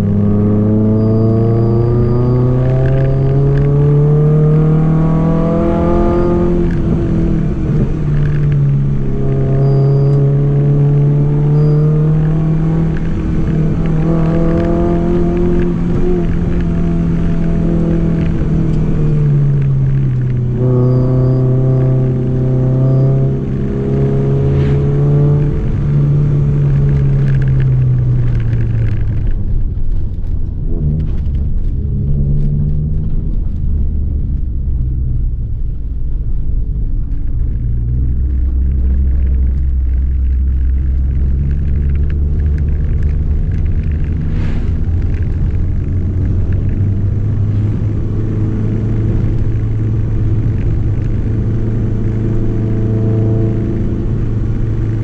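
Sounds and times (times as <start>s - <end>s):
car engine pulling from inside: 0.0s - 55.0s.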